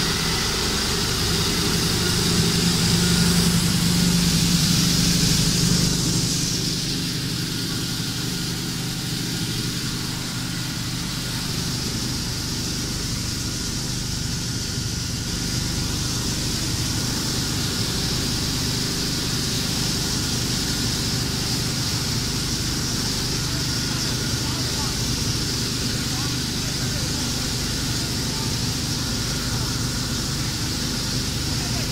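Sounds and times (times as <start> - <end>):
machine drone with hum and hiss: 0.0 - 31.9.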